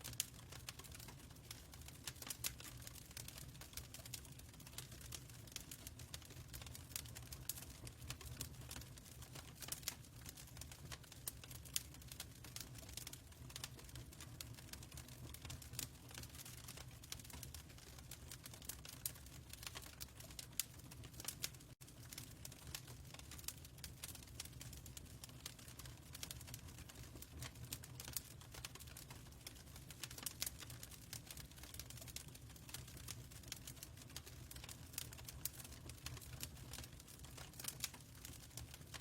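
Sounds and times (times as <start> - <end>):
fireplace crackling: 0.0 - 39.0.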